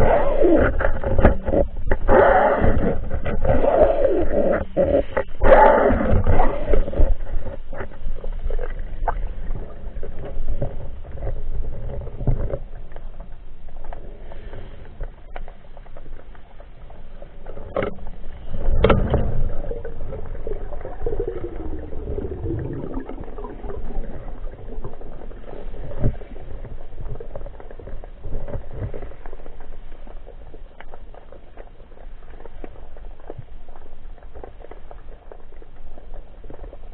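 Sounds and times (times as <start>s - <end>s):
underwater rumble of moving water: 0.0s - 36.9s.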